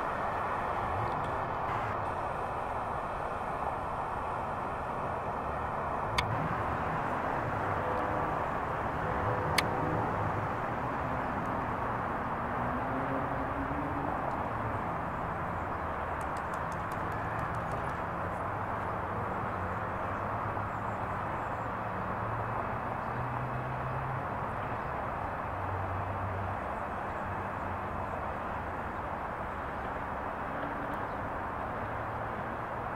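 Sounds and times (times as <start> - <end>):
urban traffic noise: 0.0 - 32.9.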